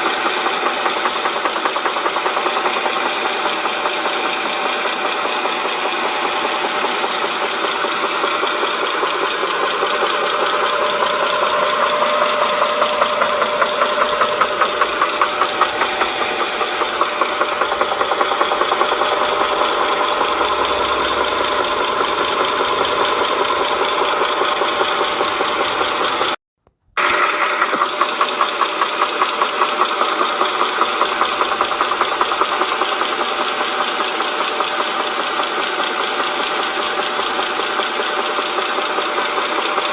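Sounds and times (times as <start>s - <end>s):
car engine knocking rattle: 0.0s - 26.4s, 27.0s - 39.9s.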